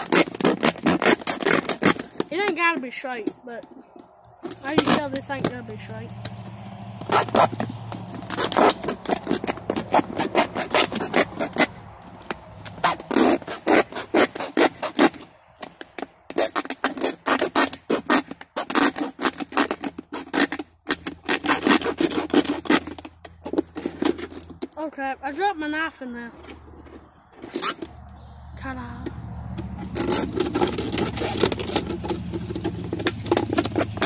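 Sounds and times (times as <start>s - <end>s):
knife sawing plastic bottle: 0.0s - 3.3s, 4.4s - 6.4s, 7.0s - 24.8s, 29.8s - 34.0s.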